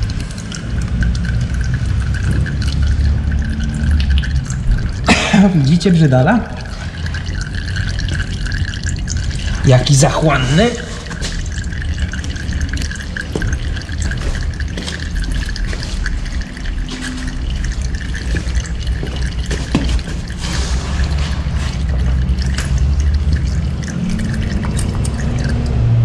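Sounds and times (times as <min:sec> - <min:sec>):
oil trickling and dripping: 0:00.0 - 0:26.0.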